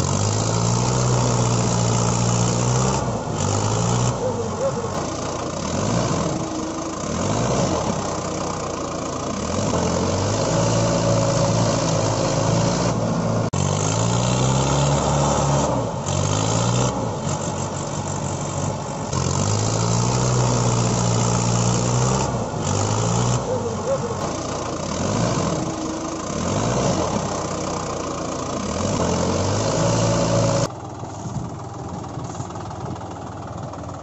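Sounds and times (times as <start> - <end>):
tractor engine revving: 0.0 - 34.0.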